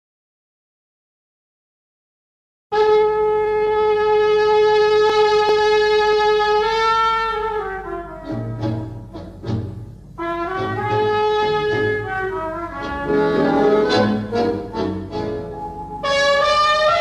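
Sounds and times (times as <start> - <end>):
brass instrument melody: 2.7 - 17.0
low musical accompaniment: 2.8 - 17.0.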